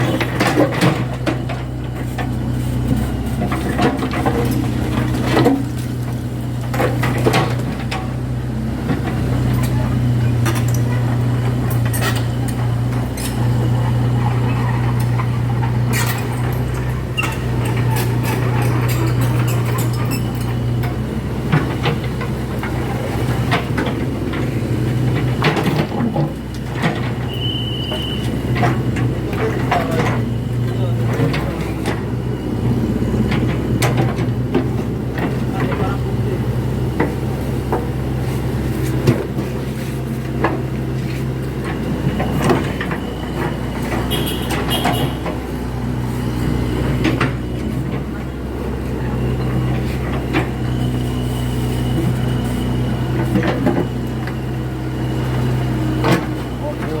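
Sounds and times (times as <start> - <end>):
construction machine engine running: 0.0 - 57.0.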